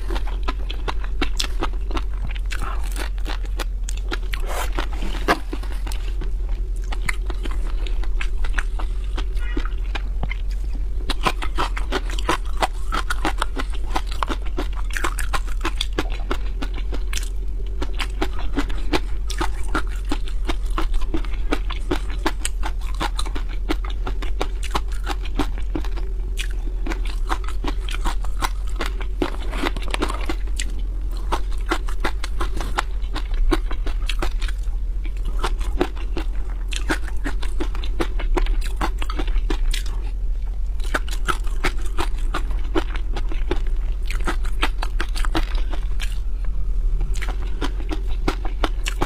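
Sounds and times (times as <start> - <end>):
chewing shrimp with wet crunches: 0.0 - 40.1, 40.8 - 46.3, 47.0 - 49.0
steady low hum: 0.0 - 49.0.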